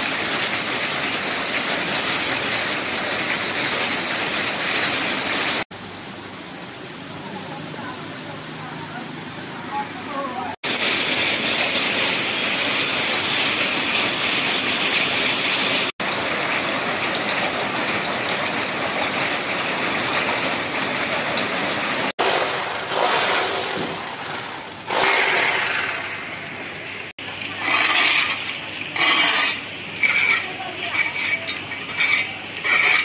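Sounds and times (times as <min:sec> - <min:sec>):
rain on leaves and metal roofs: 0:00.0 - 0:33.0.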